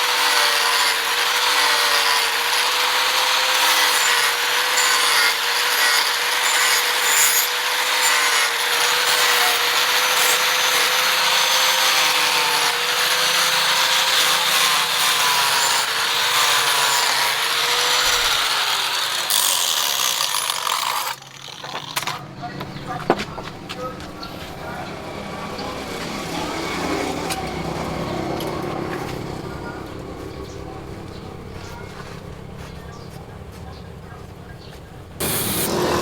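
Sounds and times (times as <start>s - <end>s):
power tool grinding: 0.0s - 33.2s, 35.2s - 36.0s.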